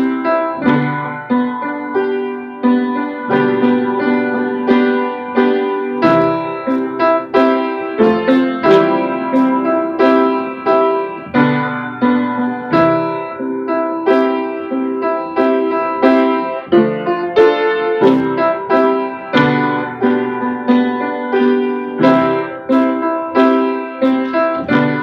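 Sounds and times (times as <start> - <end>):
piano chords: 0.0 - 25.0.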